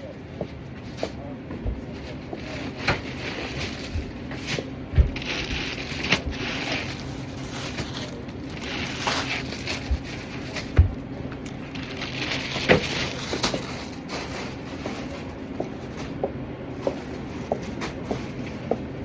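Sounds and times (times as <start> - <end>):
steady background hum: 0.0 - 19.0
crackling of handled items: 1.8 - 19.0.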